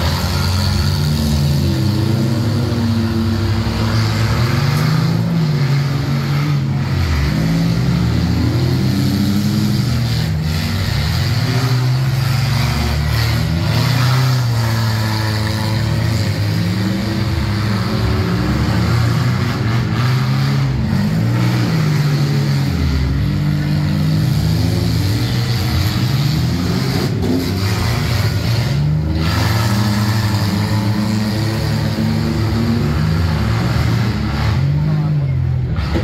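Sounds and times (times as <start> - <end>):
car engines racing: 0.0 - 36.0.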